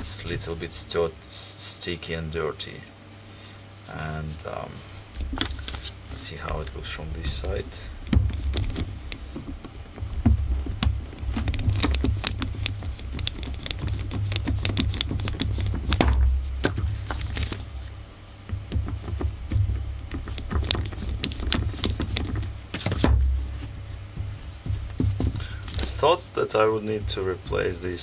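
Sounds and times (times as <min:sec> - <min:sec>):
low handling rumble: 0:03.9 - 0:28.0.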